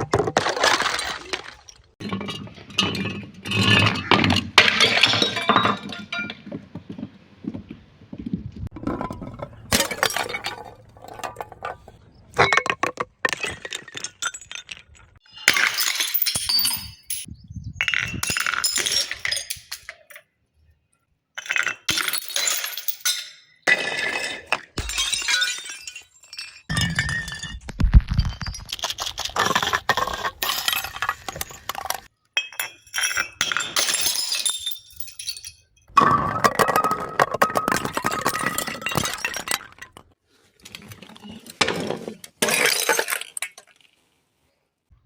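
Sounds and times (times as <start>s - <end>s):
glass bottles shattering: 0.1s - 6.4s, 8.7s - 20.3s, 21.4s - 40.2s, 41.2s - 43.8s.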